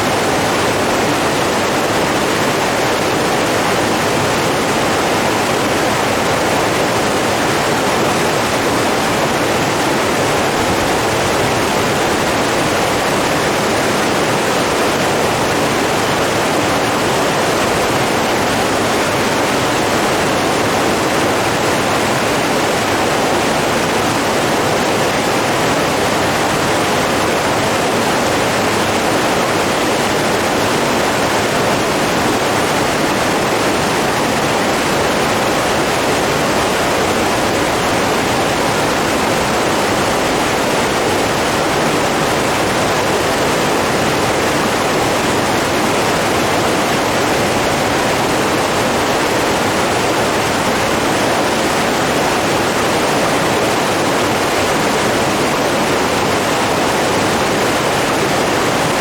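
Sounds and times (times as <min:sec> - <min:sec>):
rushing flowing water: 0:00.0 - 0:59.0.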